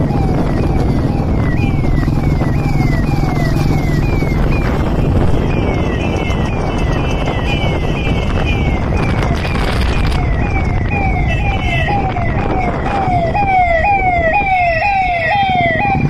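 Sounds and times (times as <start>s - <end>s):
motorcycle engine rumble: 0.0s - 16.0s
siren falling sweeps: 0.0s - 16.0s.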